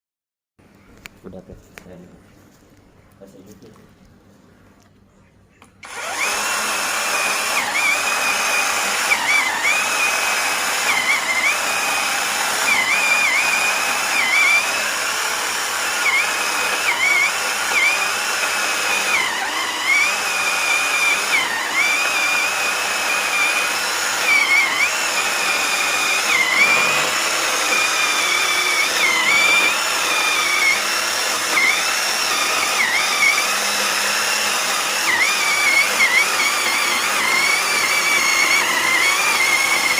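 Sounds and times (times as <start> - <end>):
chainsaw engine revving: 5.8 - 39.9.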